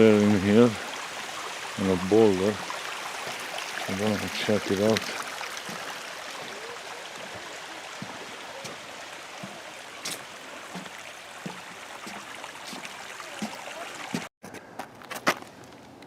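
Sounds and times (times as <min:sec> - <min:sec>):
water running down waterfall: 0:00.0 - 0:14.3.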